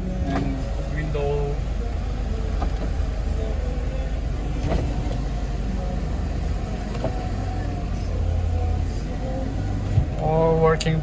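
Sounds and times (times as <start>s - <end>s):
truck idling: 0.0s - 11.0s.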